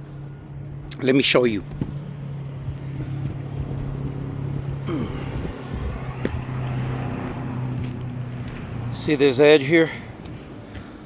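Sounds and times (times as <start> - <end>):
low mechanical hum: 0.0 - 9.0.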